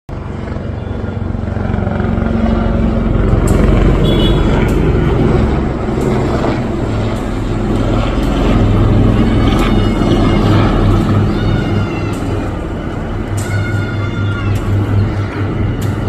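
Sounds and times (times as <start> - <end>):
helicopter running: 0.1 - 16.0.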